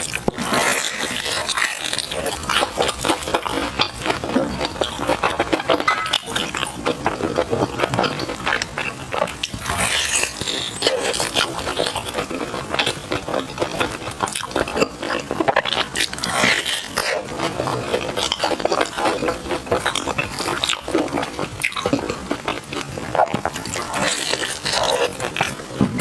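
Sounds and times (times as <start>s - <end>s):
chewing and wet mouth smacking: 0.0s - 26.0s.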